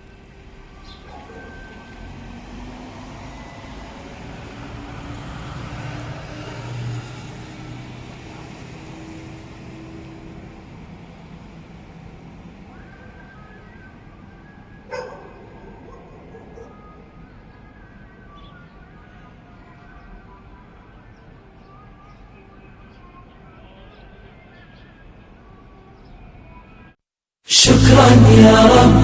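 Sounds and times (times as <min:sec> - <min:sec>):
vehicle passing: 0:00.0 - 0:25.8, 0:27.6 - 0:29.0.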